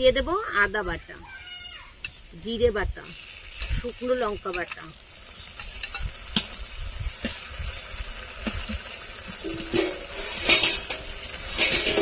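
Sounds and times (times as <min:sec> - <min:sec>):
onion frying in oil: 0:00.0 - 0:12.0.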